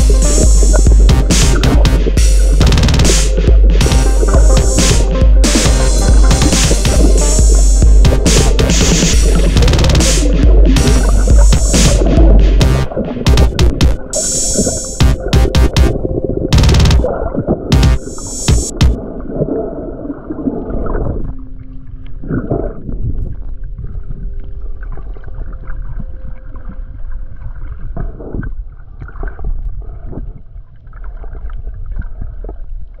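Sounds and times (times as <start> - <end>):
muffled underwater rumble: 0.0 - 33.0.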